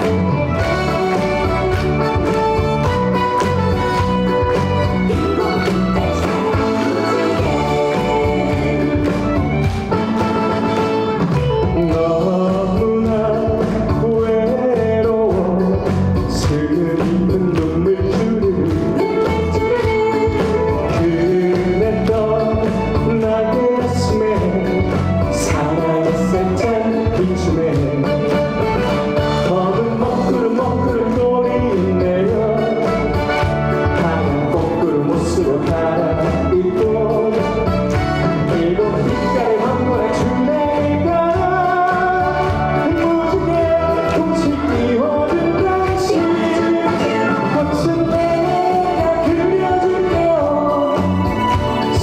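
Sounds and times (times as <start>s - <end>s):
trot music over steady beat: 0.0s - 52.0s.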